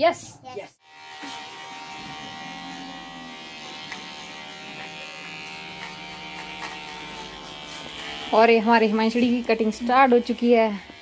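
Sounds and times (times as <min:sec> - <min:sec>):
electric hair clippers buzzing: 0:00.8 - 0:11.0.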